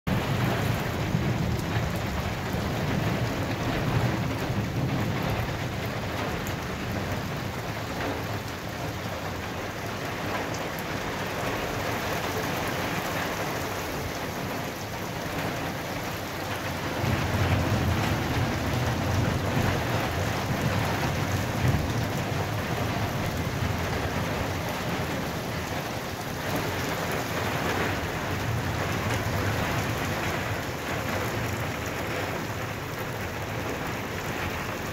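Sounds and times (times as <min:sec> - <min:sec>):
heavy rain on concrete rooftop: 0:00.1 - 0:34.9.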